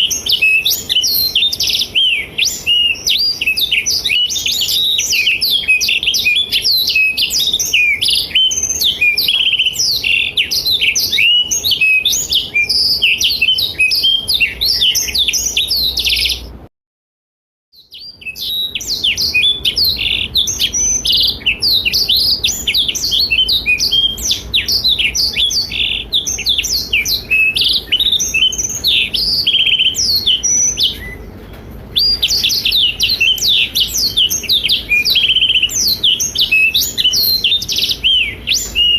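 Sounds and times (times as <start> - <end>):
canary singing twittering song: 0.0 - 16.6, 17.8 - 38.9.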